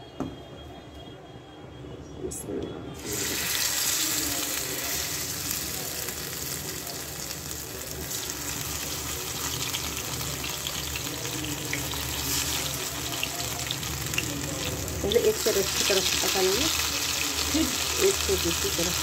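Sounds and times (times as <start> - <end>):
chicken sizzling in hot oil: 3.0 - 19.0.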